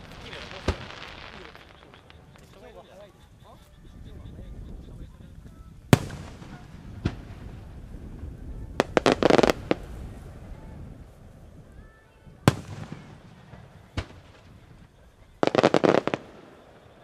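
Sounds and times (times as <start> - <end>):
firework shells bursting: 0.0 - 2.9, 4.9 - 11.5, 12.4 - 17.0.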